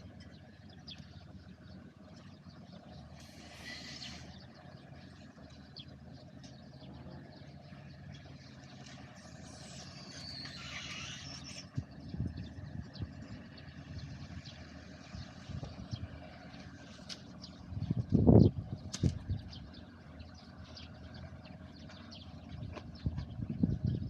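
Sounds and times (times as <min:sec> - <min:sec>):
machine engine humming: 0:00.0 - 0:24.0.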